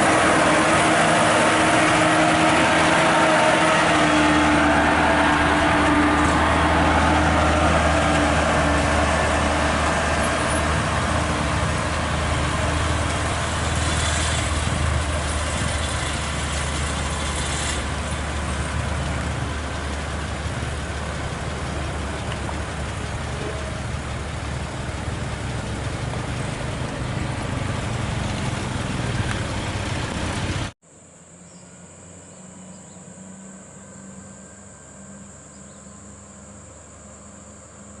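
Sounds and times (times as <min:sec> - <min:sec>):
truck diesel engine droning: 0:00.0 - 0:30.8, 0:31.4 - 0:38.0.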